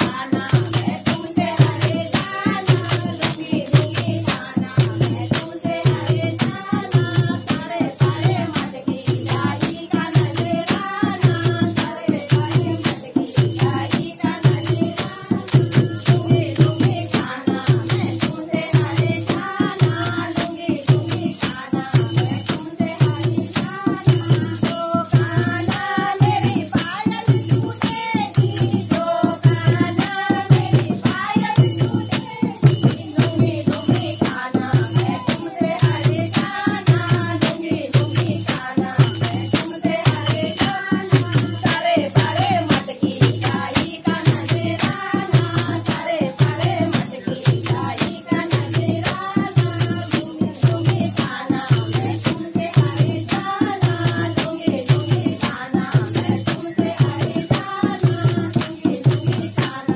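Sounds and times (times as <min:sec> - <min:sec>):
dholak drumbeat: 0:00.0 - 0:59.9
jingling hand percussion: 0:00.0 - 0:59.9
woman singing: 0:00.0 - 0:59.9.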